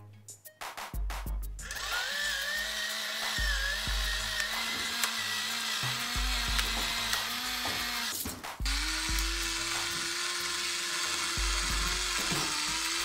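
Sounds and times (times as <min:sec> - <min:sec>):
background music with a beat: 0:00.0 - 0:01.8, 0:02.6 - 0:13.0
pepper grinder whirring hiss: 0:01.6 - 0:13.0.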